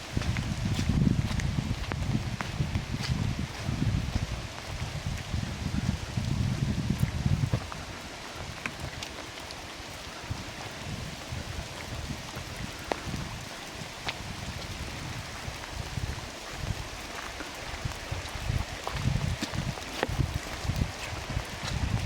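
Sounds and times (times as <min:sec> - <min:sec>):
steady rain in forest: 0:00.0 - 0:22.0.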